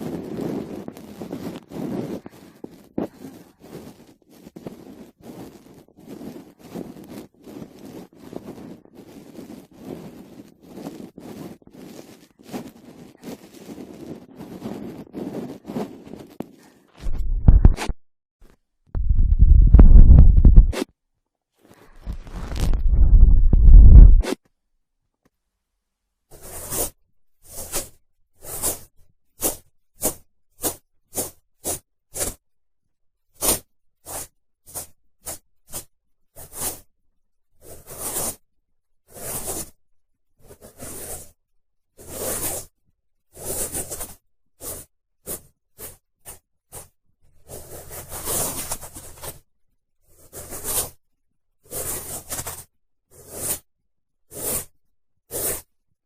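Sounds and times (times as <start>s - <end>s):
cotton swab rubbing in ear: 0.0s - 17.9s, 19.0s - 20.9s, 21.8s - 24.4s, 26.3s - 32.4s, 33.4s - 36.9s, 37.6s - 38.4s, 39.1s - 39.8s, 40.5s - 41.4s, 42.0s - 42.7s, 43.3s - 49.4s, 50.1s - 51.0s, 51.6s - 53.7s, 54.3s - 55.7s.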